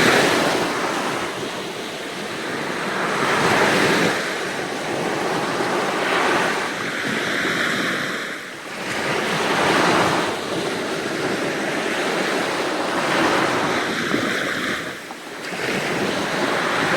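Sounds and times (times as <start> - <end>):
sea waves breaking on shore: 0.0 - 16.9.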